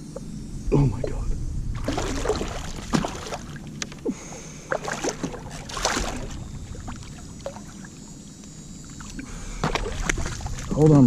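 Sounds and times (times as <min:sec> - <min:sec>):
water splashing: 0:01.0 - 0:10.9.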